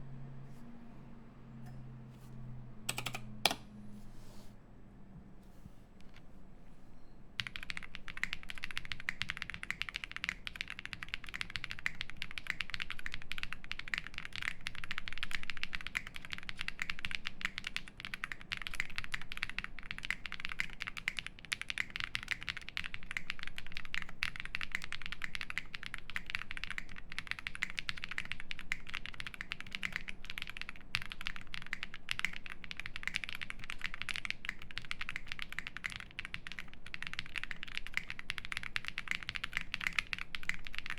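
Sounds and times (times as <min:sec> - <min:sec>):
mechanical keyboard typing: 0:02.9 - 0:03.7, 0:07.4 - 0:40.9.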